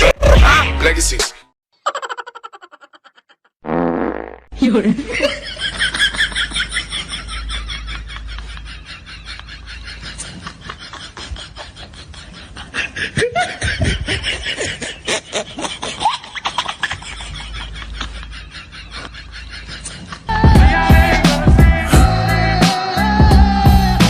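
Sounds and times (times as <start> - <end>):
people laughing and snickering: 1.8 - 3.5, 4.8 - 22.5.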